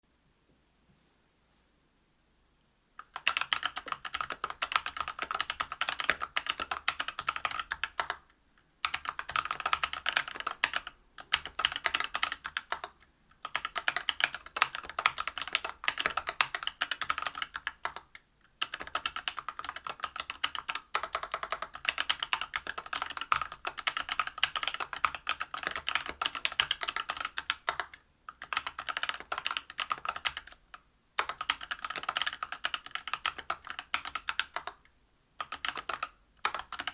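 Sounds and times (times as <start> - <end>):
fast typing on mechanical keyboard: 3.0 - 34.8, 35.4 - 36.9.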